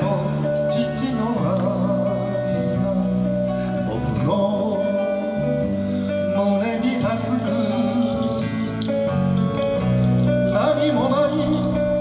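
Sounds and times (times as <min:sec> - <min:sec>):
acoustic guitar strumming: 0:00.0 - 0:12.0
electric bass line: 0:00.0 - 0:12.0.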